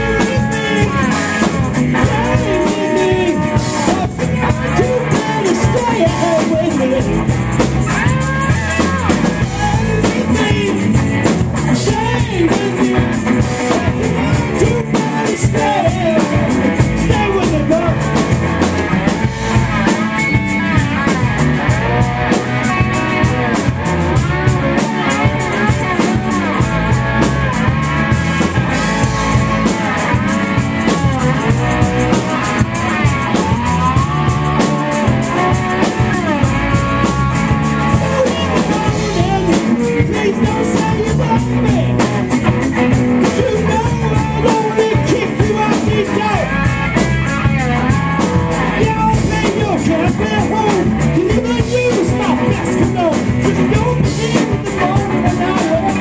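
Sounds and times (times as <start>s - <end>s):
drum kit: 0.0s - 56.0s
electric guitars: 0.0s - 56.0s
man singing: 0.0s - 56.0s.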